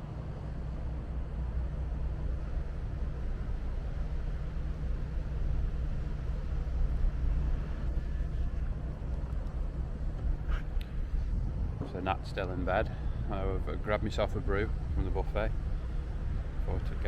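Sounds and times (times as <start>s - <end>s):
ship machinery rumble: 0.0s - 17.0s.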